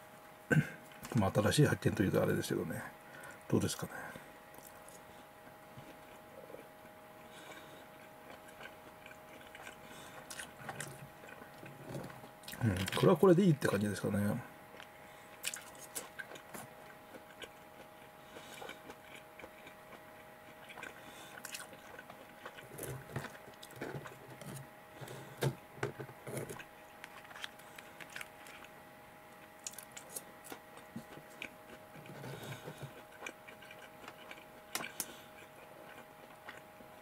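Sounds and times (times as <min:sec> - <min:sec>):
person chewing: 0:04.5 - 0:13.1, 0:14.7 - 0:37.0.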